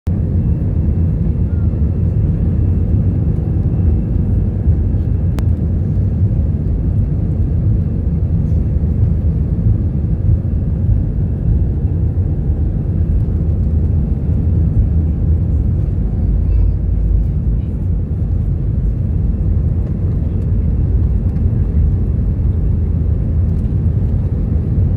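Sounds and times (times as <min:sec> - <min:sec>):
airplane engines rumbling: 0:00.1 - 0:24.9.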